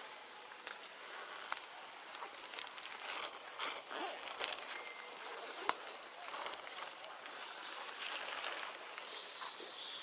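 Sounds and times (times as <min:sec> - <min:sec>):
light rain pattering on leaves: 0:00.0 - 0:10.0.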